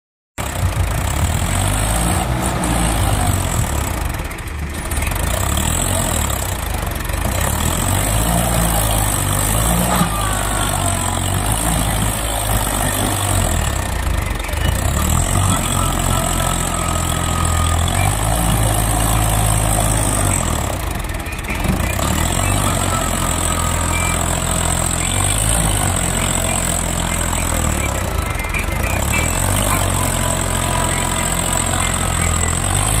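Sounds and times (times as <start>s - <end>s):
tractor diesel engine under load: 0.4s - 33.0s.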